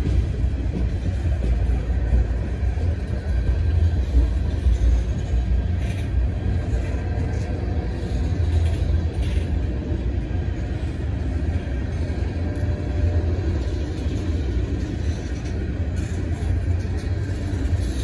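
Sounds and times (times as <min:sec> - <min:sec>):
faint train clanks: 0:00.0 - 0:18.0
freight train rumbling past: 0:00.0 - 0:18.0.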